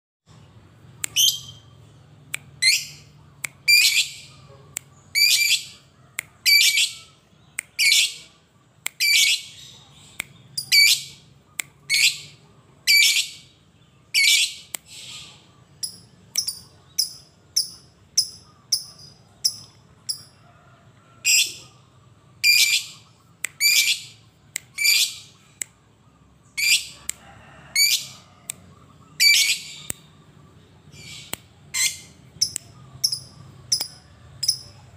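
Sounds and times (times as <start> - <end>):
bird chirping: 0.3 - 34.9.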